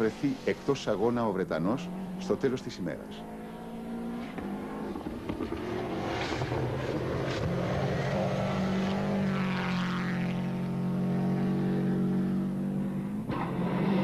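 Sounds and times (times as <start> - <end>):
rally car engine running hard: 1.8 - 14.0.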